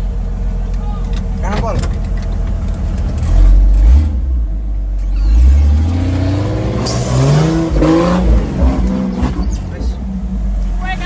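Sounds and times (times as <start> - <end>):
car engine revving under load: 1.2 - 10.8.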